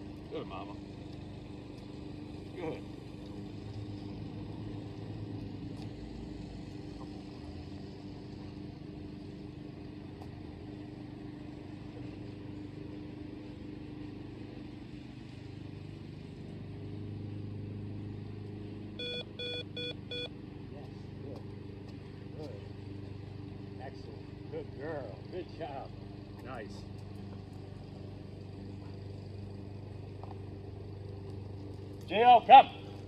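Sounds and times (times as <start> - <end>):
distant motor engine hum: 0.0 - 33.0.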